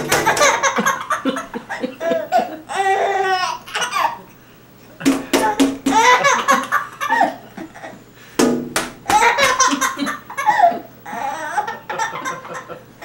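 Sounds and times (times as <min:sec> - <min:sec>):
baby laughing: 0:00.0 - 0:04.4, 0:05.1 - 0:08.0, 0:09.0 - 0:12.9.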